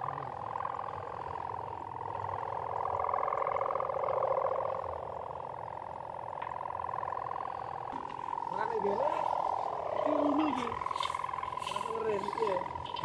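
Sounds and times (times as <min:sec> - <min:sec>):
kite hummer droning in wind: 0:00.0 - 0:13.0.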